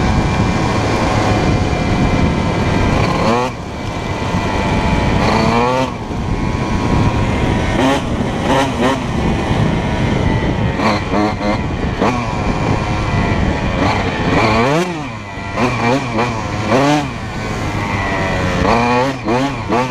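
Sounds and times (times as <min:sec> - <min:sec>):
two-stroke motorcycle engine revving: 0:00.0 - 0:19.9
wind rumble on microphone: 0:00.0 - 0:19.9.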